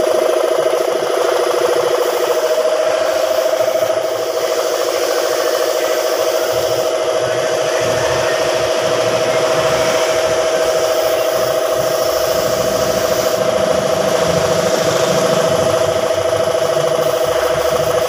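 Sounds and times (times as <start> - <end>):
loud steady machine hum: 0.0 - 18.0
paint spray gun hissing: 0.0 - 18.0.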